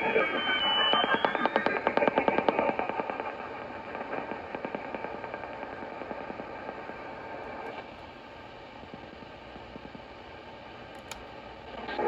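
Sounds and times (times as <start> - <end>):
shortwave radio static crackling: 0.0 - 12.0.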